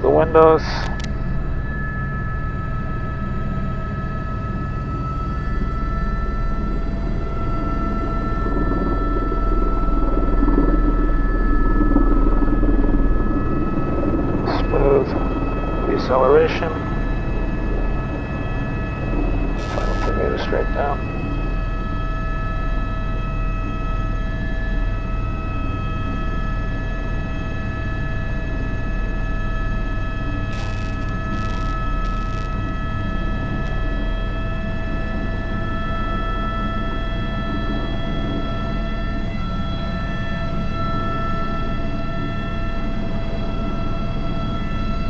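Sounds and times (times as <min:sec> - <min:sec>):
helicopter rotor rumble: 0:00.0 - 0:45.0
helicopter turbine whine: 0:00.0 - 0:45.0.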